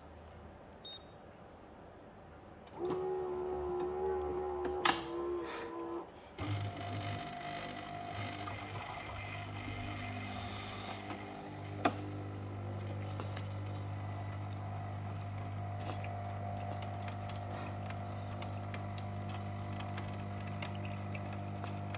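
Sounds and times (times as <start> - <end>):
espresso machine pump humming: 2.8 - 21.9.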